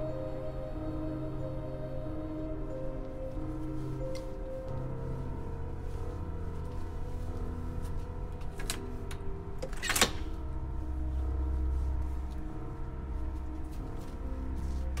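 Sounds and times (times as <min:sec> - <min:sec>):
low music drone: 0:00.0 - 0:15.0.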